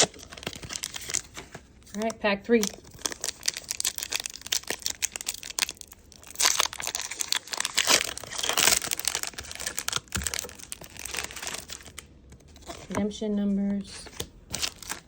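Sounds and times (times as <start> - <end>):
foil wrapper tearing and crinkling: 0.0 - 13.0, 14.1 - 15.0
cards crackling: 0.0 - 15.0.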